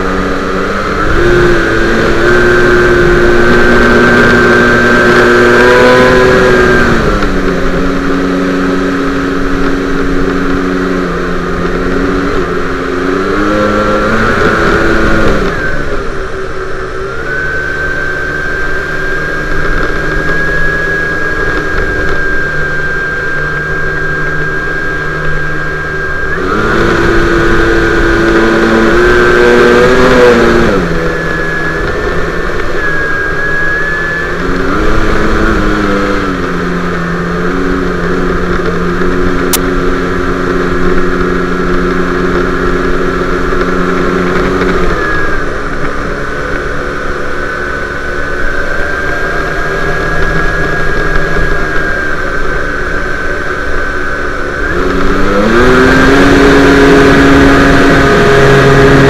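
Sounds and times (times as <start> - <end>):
model airplane motor whine: 0.0 - 59.0.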